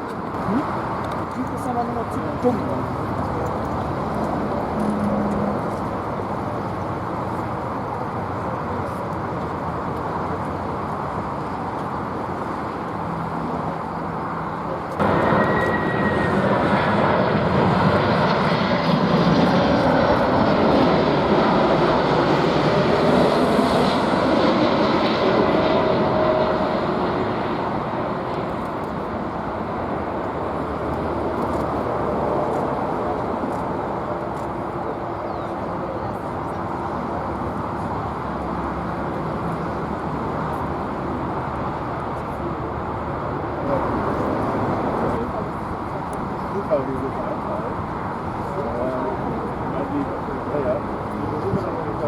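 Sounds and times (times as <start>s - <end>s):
jet engines rushing with high whine: 0.0s - 52.0s.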